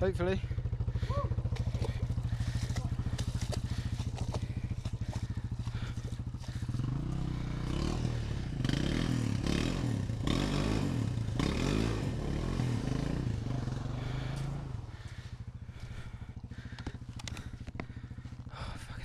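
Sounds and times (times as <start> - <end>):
dirt bike engine revving: 0.0 - 18.6.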